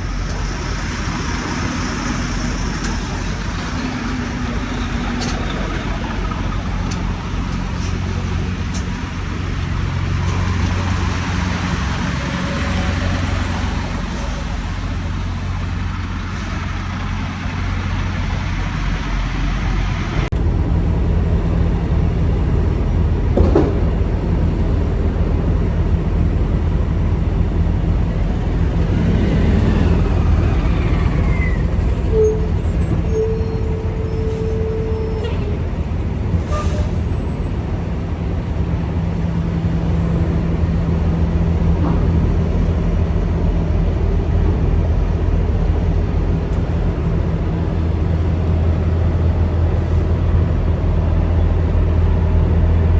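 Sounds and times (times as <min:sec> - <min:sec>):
road noise: 0:00.0 - 0:52.9
truck diesel engine running: 0:00.0 - 0:52.9.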